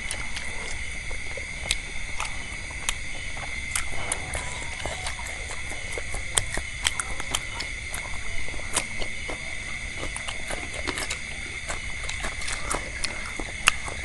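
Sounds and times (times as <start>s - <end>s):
chewing and crunching food: 0.0s - 14.0s
steady high-pitched tone: 0.0s - 14.0s.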